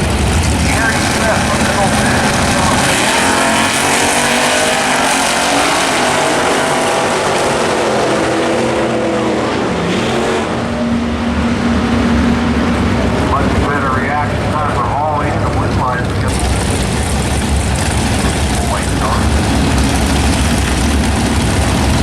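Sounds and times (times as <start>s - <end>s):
drag racing car engines: 0.0s - 22.0s.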